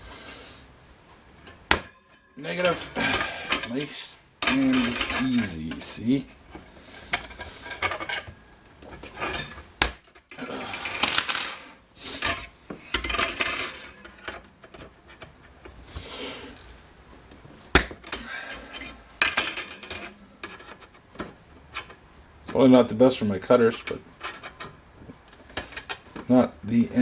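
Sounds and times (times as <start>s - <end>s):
metal rack clinking and rattling: 1.2s - 26.3s.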